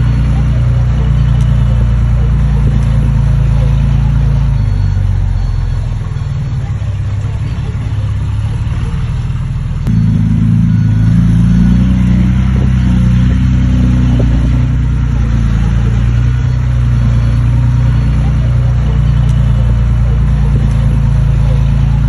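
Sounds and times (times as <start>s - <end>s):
heavy diesel engine working: 0.0s - 22.0s.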